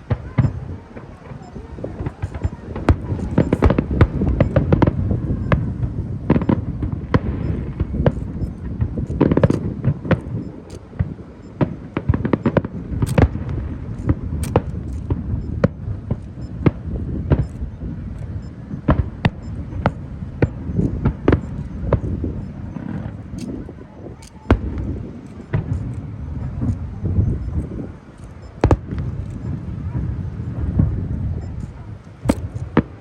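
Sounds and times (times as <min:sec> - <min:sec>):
fireworks bangs and cracks: 0:00.0 - 0:33.0
low rumble of explosions: 0:00.0 - 0:33.0.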